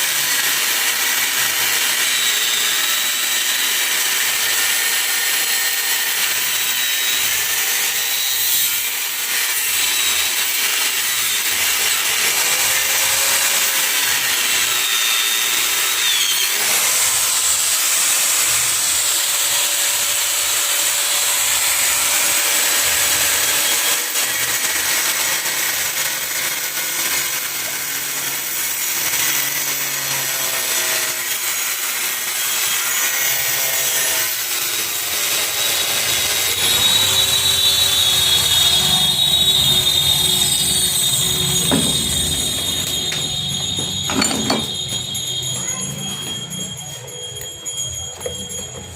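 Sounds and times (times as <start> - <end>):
saw cutting plastic case: 0.0 - 45.2.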